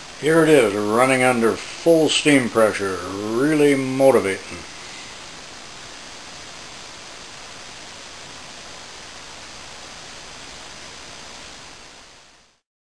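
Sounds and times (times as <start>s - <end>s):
steam hissing from jets: 0.0s - 12.6s.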